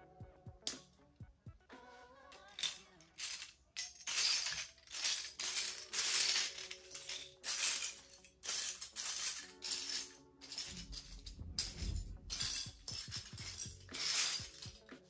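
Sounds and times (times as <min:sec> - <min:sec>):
plastic bricks clattering: 0:02.3 - 0:15.0.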